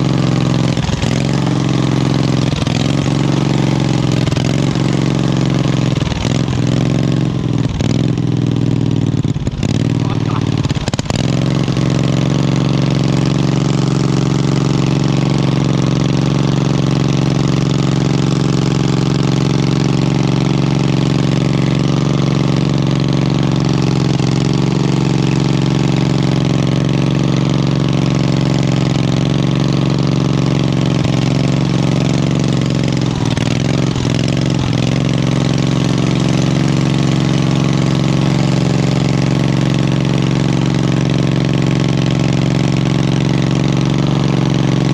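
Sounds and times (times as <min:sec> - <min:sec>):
garden tractor engine running: 0:00.0 - 0:44.9.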